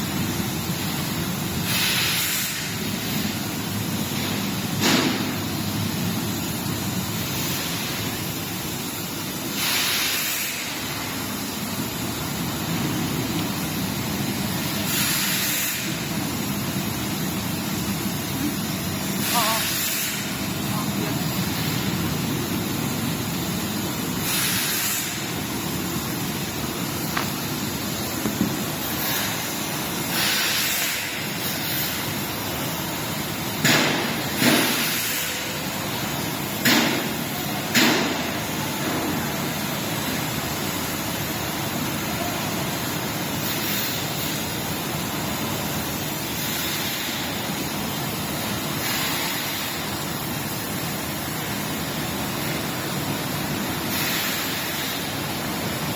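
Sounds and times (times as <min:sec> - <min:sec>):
dehumidifier fan noise: 0:00.0 - 0:55.9.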